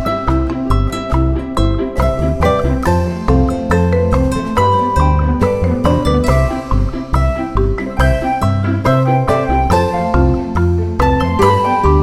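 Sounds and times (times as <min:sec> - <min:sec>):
steady bass beat: 0:00.0 - 0:12.0
upbeat plucked melody: 0:00.0 - 0:12.0.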